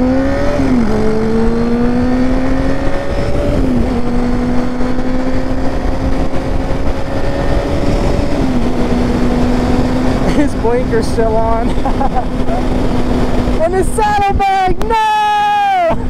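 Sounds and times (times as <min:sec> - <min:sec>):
motorcycle engine accelerating: 0:00.0 - 0:14.6
wind rushing over microphone: 0:00.0 - 0:16.0.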